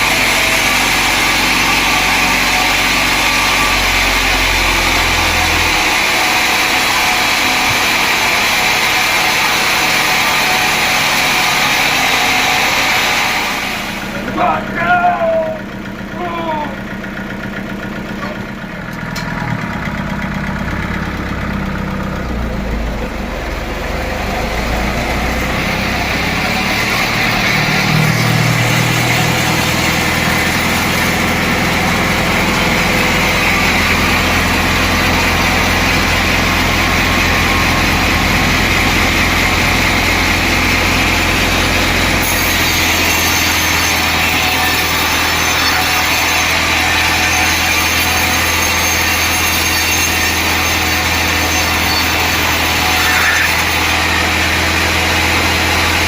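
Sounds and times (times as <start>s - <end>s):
motor-driven saw running: 0.0s - 14.8s, 15.6s - 56.0s.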